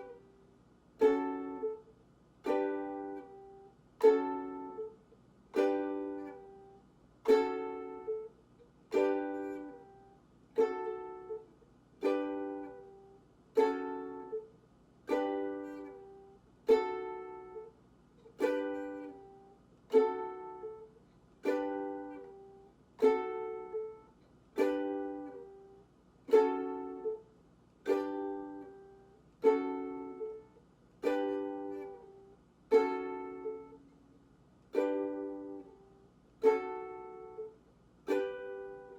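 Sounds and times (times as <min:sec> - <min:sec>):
ukulele chords strummed: 0:00.0 - 0:33.9, 0:34.7 - 0:38.9.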